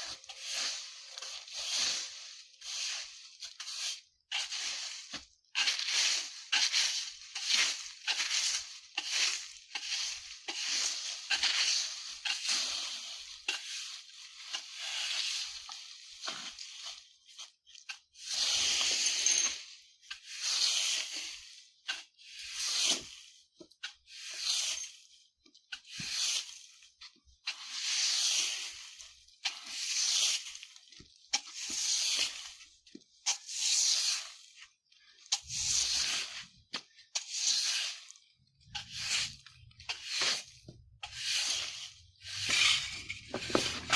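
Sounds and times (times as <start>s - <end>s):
broom sweeping dry leaves: 0.0s - 43.9s.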